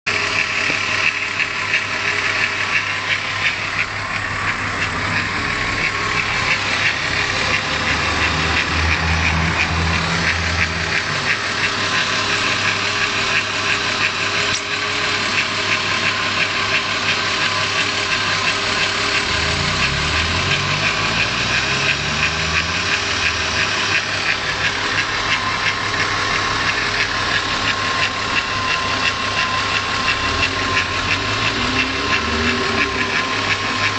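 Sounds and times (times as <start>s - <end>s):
engine idling with ticking rattle: 0.0s - 33.9s.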